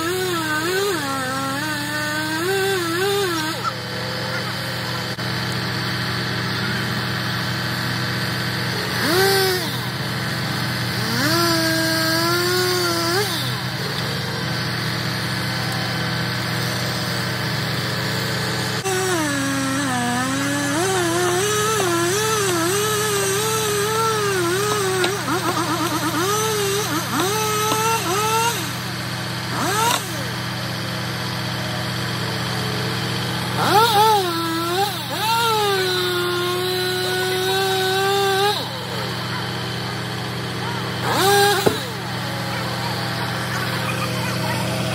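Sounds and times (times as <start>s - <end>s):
chainsaw revving and cutting wood: 0.0s - 44.9s
truck engine humming: 0.0s - 44.9s.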